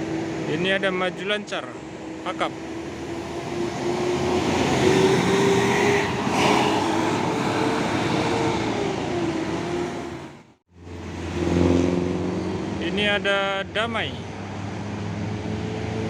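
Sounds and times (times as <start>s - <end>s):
bus engine passing: 0.0s - 16.0s
rushing road and wind noise: 0.0s - 16.0s.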